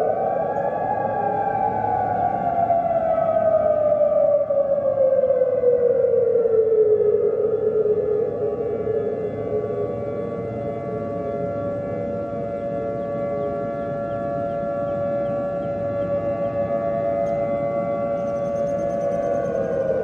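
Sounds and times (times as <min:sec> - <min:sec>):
civil defense siren: 0:00.0 - 0:20.0.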